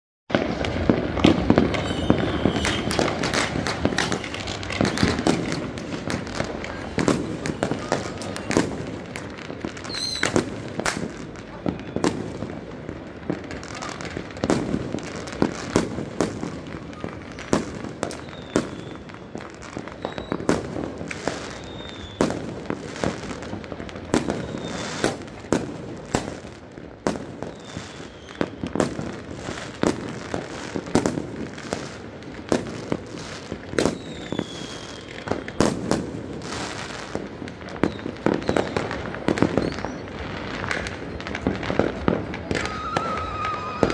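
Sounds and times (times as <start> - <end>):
faint firework whistles: 0.3 - 12.6, 13.3 - 43.9
firecrackers crackling and popping: 0.3 - 43.9
firework bangs: 0.3 - 43.9.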